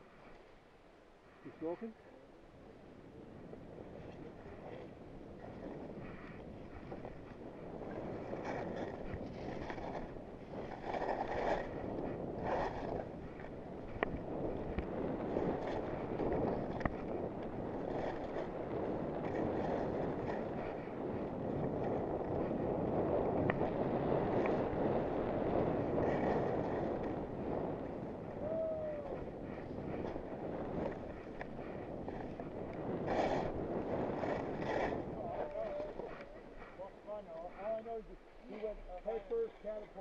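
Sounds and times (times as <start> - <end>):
wind buffeting microphone: 2.5 - 40.0.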